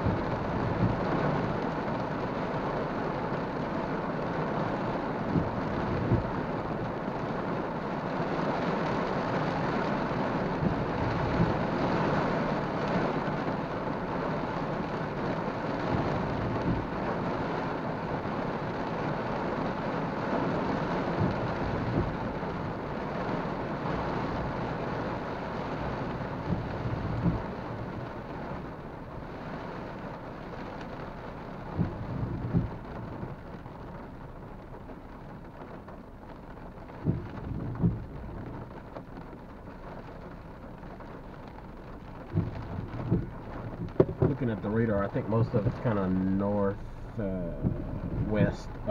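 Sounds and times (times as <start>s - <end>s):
windshield wipers thumping: 0.0s - 7.7s, 8.5s - 48.9s
rain on car roof: 0.0s - 48.9s.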